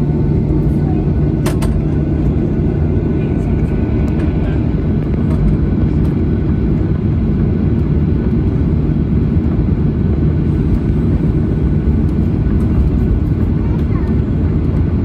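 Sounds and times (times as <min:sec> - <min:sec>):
jet engine rumble in cabin: 0:00.0 - 0:15.0.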